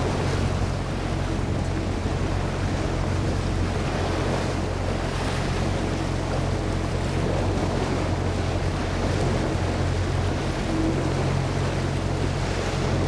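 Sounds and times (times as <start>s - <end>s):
boat engine humming: 0.0s - 13.0s
water rushing: 0.0s - 13.0s
wind on microphone: 0.0s - 13.0s.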